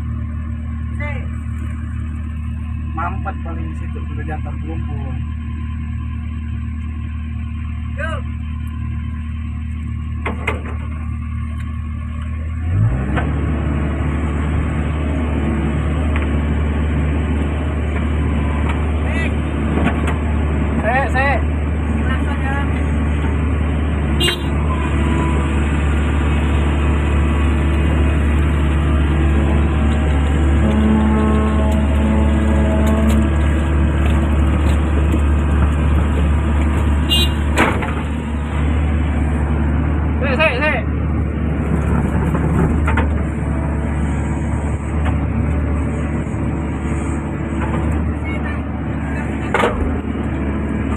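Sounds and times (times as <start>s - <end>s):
excavator diesel engine revving: 0.0s - 50.9s.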